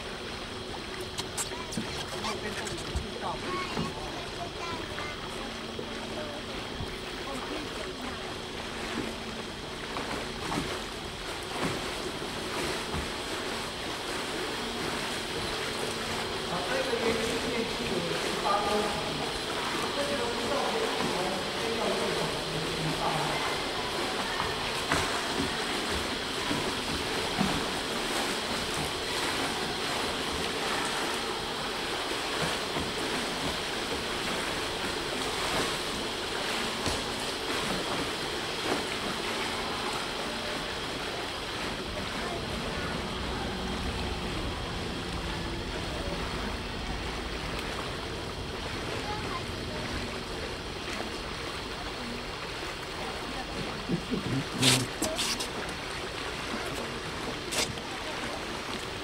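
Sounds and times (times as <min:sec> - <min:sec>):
low boat motor hum: 0:00.0 - 0:59.0
water washing: 0:00.0 - 0:59.0.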